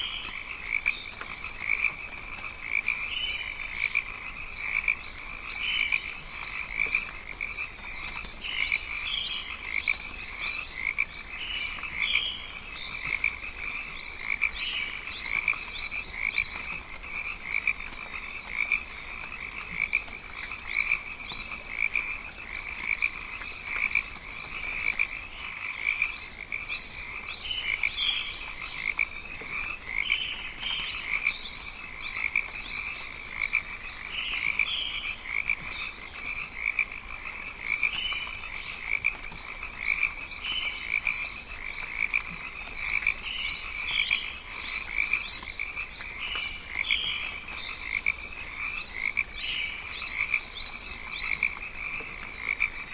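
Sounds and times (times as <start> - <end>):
frogs pulsing chorus: 0.0 - 52.9.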